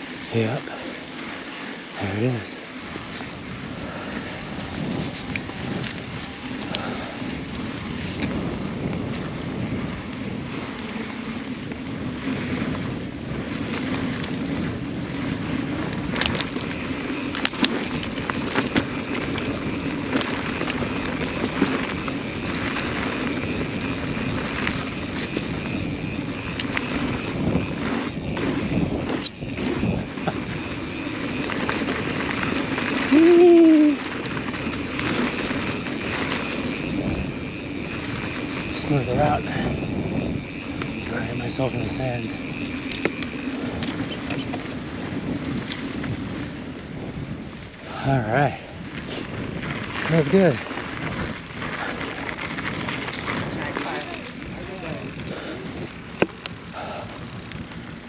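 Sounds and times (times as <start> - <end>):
bike rattling over bumps: 0.0 - 58.0
bike tyres on dirt trail: 0.0 - 58.0.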